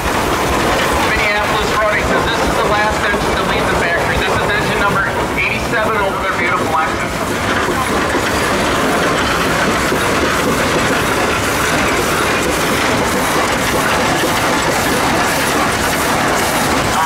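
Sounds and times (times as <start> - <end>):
steam traction engine chuffing: 0.0 - 17.0.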